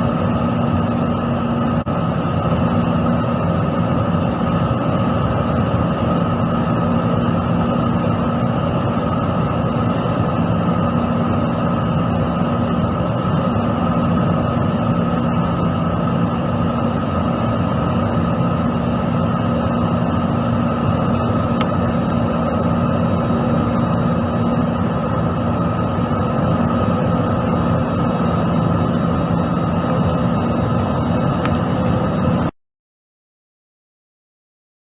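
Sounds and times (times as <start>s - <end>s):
constant hums: 0.0s - 32.6s
jet engine noise in cabin: 0.0s - 32.6s.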